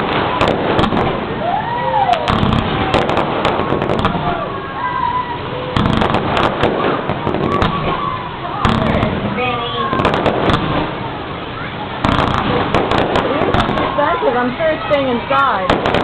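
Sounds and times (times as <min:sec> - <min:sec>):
fireworks cracking and banging: 0:00.0 - 0:16.0
fireworks whistling: 0:00.0 - 0:16.0.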